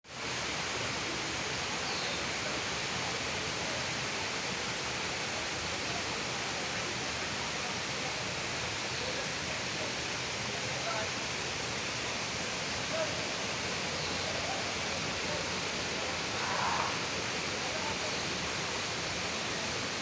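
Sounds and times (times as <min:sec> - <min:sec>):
waterfall rushing: 0:00.1 - 0:20.0.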